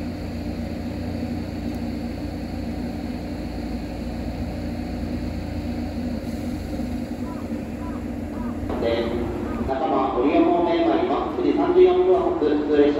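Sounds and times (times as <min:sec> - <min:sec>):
electric train equipment humming: 0:00.0 - 0:12.9.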